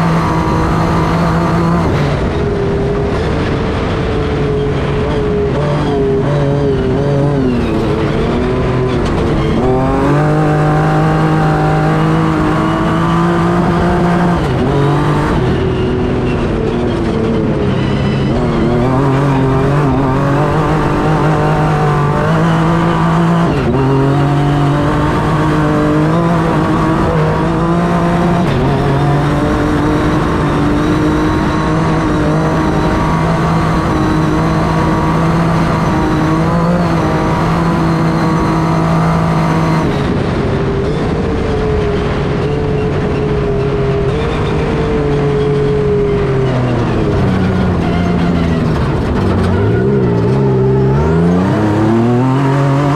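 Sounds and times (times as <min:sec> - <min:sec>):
road and wind noise: 0:00.0 - 0:52.9
truck engine running hard: 0:00.0 - 0:52.9.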